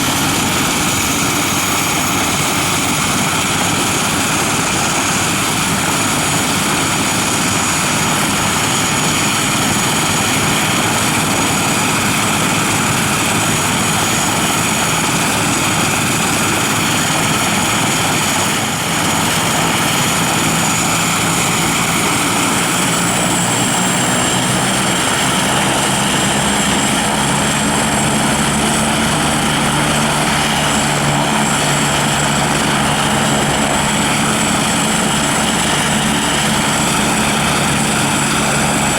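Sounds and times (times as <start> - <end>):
helicopter rotor running: 0.0 - 38.9
high turbine whine: 0.0 - 38.9.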